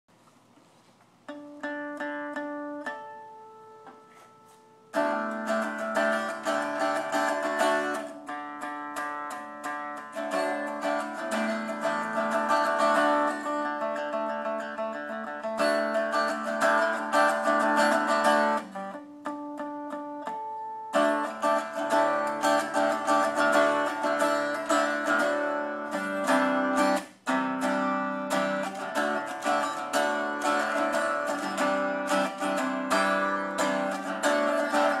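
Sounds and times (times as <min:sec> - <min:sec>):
unplugged electric guitar strumming: 0:01.3 - 0:35.0.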